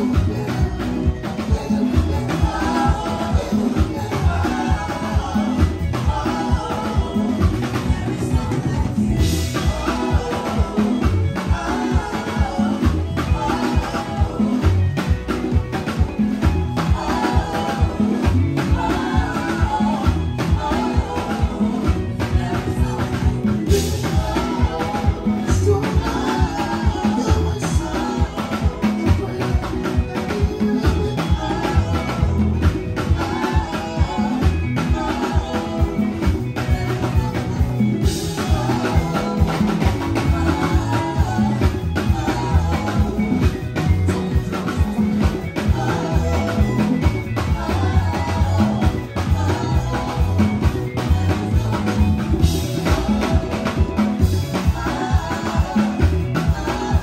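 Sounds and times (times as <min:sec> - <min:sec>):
electric bass line: 0:00.0 - 0:57.0
live band playing praise song: 0:00.0 - 0:57.0.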